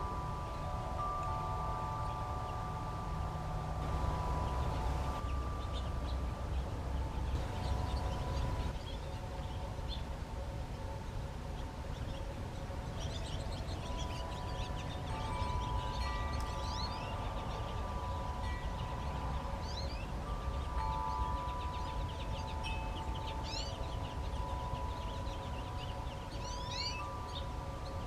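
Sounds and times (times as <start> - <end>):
low steady rumble: 0.0 - 22.5
small birds chirping: 0.0 - 28.0
wind chimes ringing: 0.0 - 28.0.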